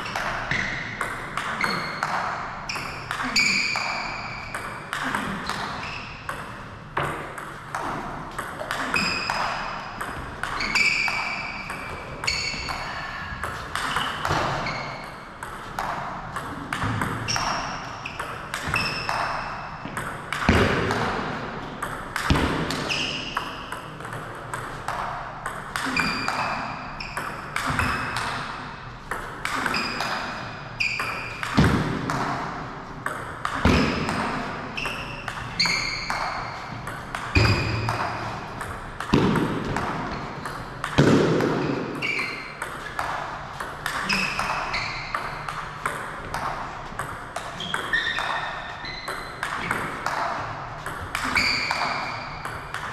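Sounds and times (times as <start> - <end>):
ping pong ball hitting bats and table: 0.0 - 52.9.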